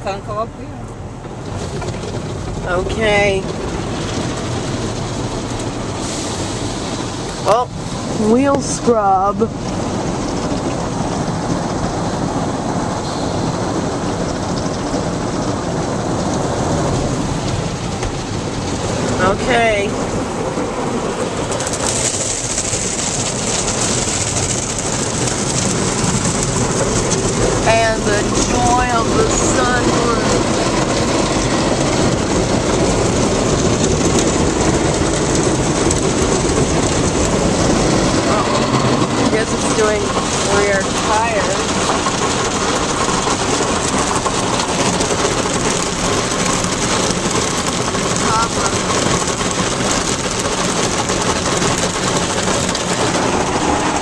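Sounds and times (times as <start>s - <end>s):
water spraying: 1.5s - 11.6s, 12.6s - 54.0s.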